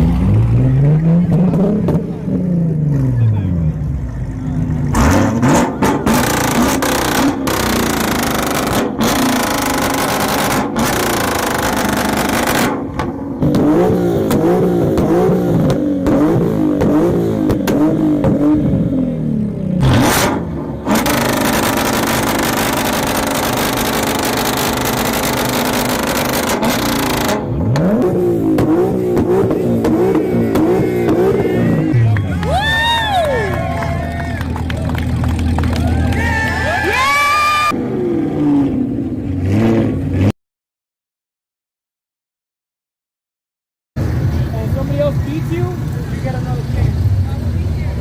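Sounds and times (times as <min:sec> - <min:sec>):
car engine revving: 0:00.0 - 0:36.2, 0:37.1 - 0:40.3.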